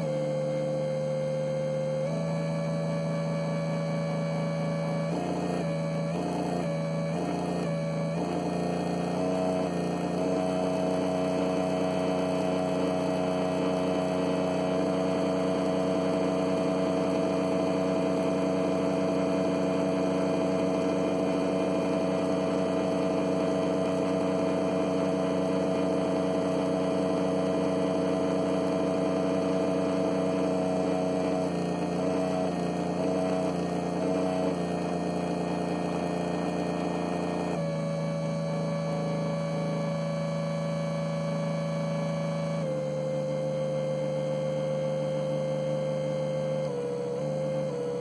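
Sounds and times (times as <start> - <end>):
electric cooling fan humming: 4.0 - 43.0.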